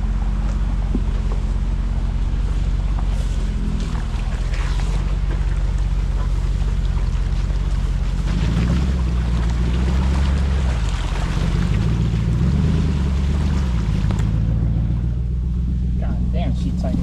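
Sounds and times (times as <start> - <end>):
suv engine running at low revs: 0.0 - 17.0.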